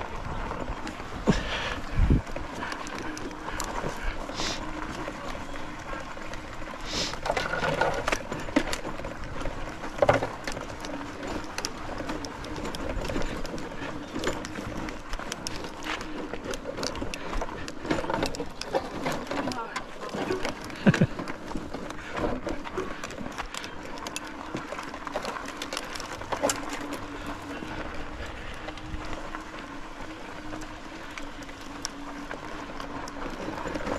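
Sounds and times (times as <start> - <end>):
small motorbike engine running: 0.0 - 33.9.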